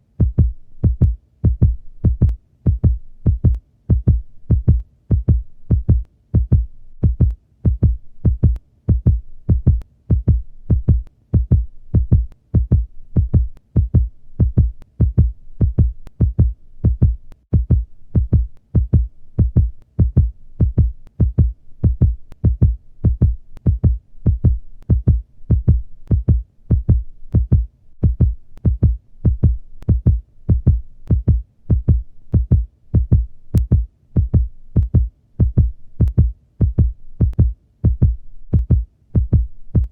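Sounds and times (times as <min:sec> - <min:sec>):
heartbeat thumps: 0:00.1 - 0:39.9.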